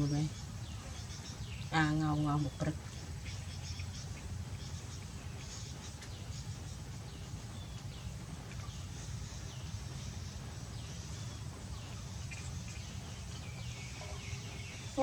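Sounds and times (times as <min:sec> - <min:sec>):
high chirping calls: 0:00.0 - 0:15.0
steady low hum: 0:00.0 - 0:15.0.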